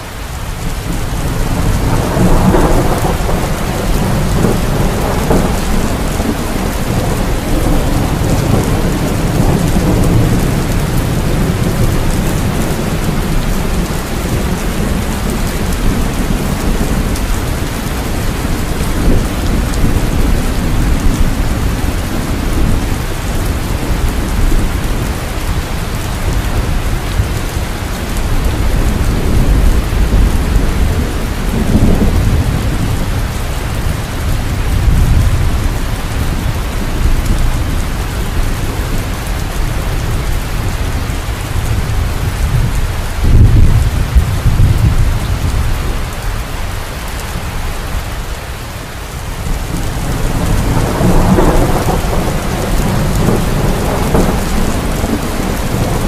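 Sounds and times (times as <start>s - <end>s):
heavy rain falling: 0.0s - 56.0s
low rolling thunder: 0.4s - 46.5s, 49.2s - 56.0s.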